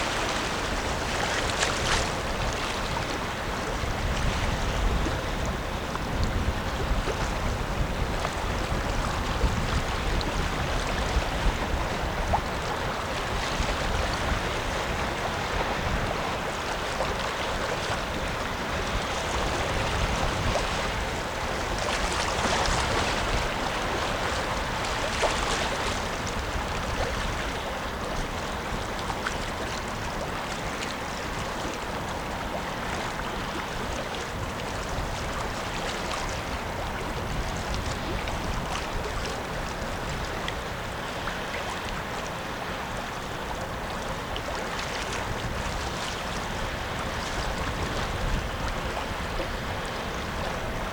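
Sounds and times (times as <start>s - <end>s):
river water rushing: 0.0s - 50.9s
wind buffeting microphone: 0.0s - 50.9s.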